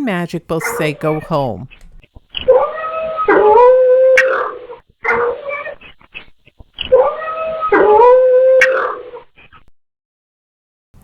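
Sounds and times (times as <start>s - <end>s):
cats yowling: 0.6s - 9.6s.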